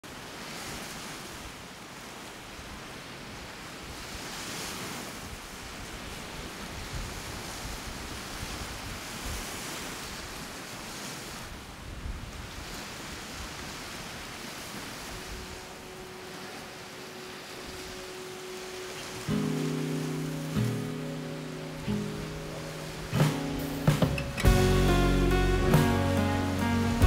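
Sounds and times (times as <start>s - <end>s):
small waves breaking on beach: 0.0s - 24.5s.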